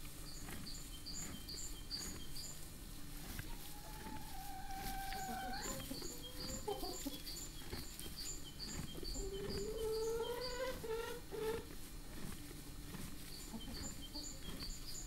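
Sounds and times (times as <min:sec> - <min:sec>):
small bird chirping: 0:00.2 - 0:02.6, 0:03.2 - 0:12.3, 0:12.9 - 0:15.0.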